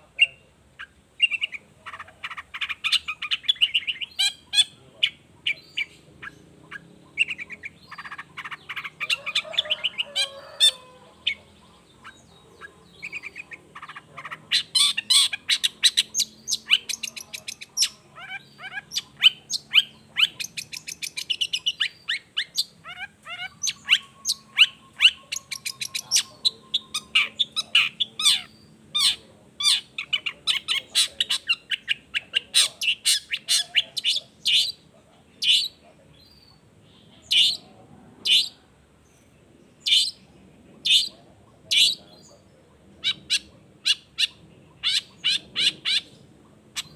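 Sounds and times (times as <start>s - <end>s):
bird singing chattering trills: 0.0s - 46.9s.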